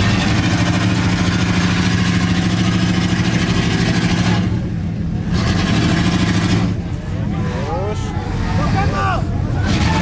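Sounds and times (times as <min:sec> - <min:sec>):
pickup engine idling loudly: 0:00.0 - 0:10.0.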